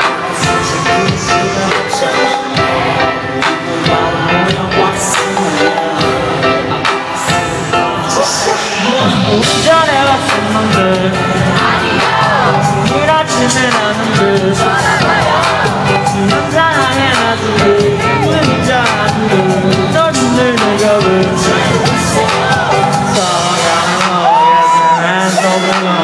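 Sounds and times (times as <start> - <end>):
amplified live pop music: 0.0 - 26.0
person singing: 0.0 - 26.0.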